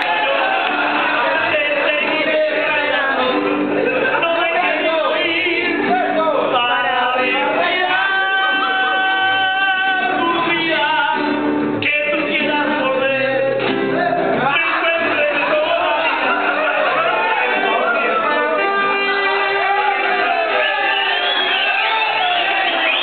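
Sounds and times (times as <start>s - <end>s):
guitars: 0.0s - 23.0s
man singing: 0.0s - 23.0s
mariachi band playing: 0.0s - 23.0s.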